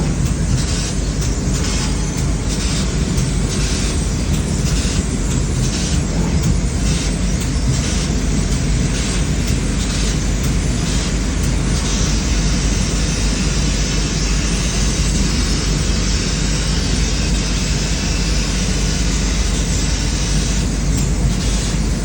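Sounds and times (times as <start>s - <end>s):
laser cutting machine rumble: 0.0s - 22.0s.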